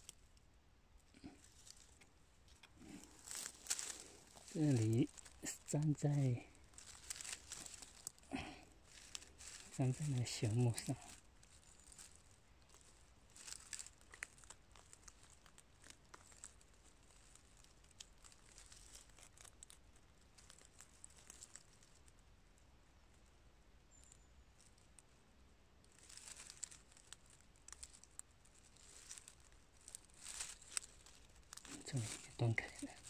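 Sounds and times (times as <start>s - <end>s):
dry needles and leaves crackling: 0.0s - 33.0s
rotten wood snapping: 1.2s - 21.8s, 25.9s - 33.0s.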